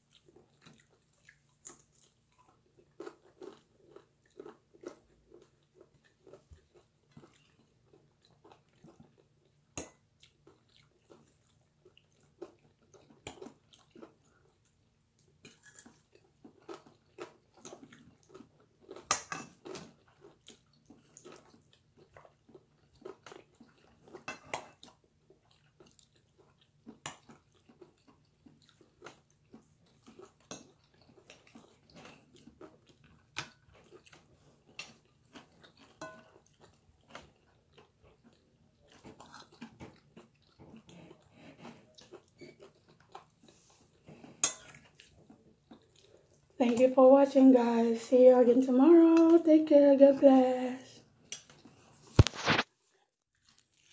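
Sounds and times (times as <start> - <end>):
person chewing food: 0.0 - 46.6, 51.0 - 53.9.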